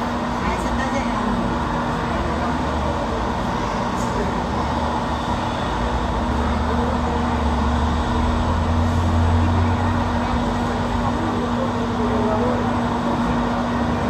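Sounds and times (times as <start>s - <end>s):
airliner engines running: 0.0s - 14.0s.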